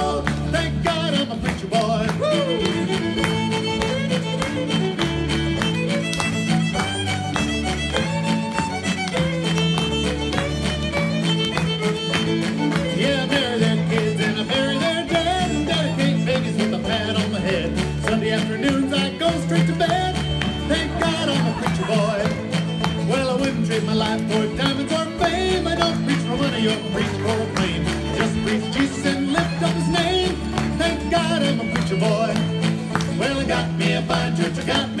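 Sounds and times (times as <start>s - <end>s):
fiddle playing melody: 0.0s - 35.0s.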